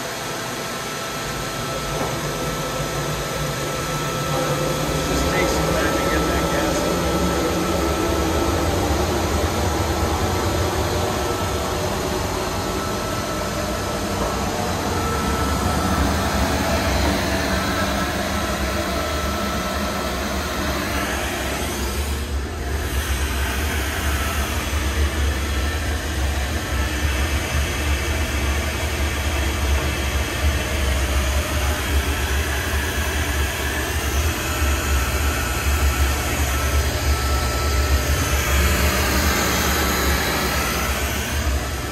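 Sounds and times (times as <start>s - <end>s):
gas burner and blower rumbling: 0.0s - 41.9s.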